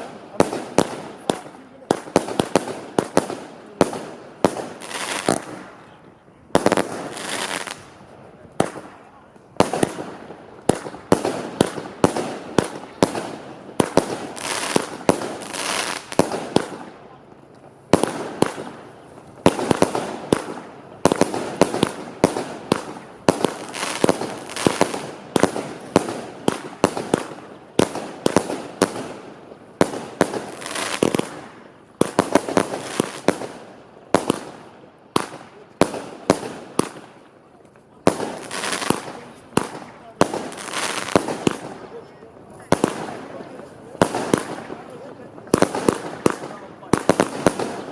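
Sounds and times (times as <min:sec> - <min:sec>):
fireworks banging: 0:00.0 - 0:47.9
fireworks crackling: 0:00.0 - 0:47.9.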